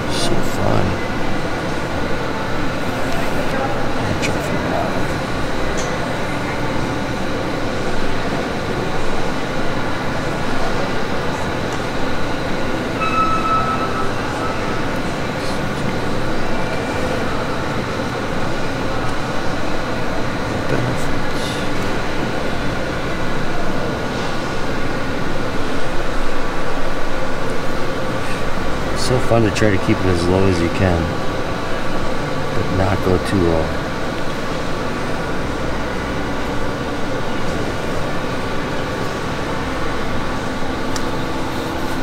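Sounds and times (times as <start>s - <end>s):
constant hum: 0.0s - 42.0s
distant crowd chatter: 0.0s - 42.0s.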